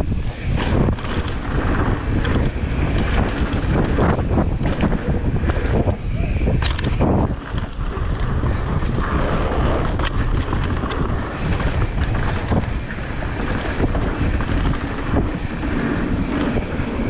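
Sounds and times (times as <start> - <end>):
sharp clicks and rattles: 0.0 - 17.0
wind buffeting microphone: 0.0 - 17.0.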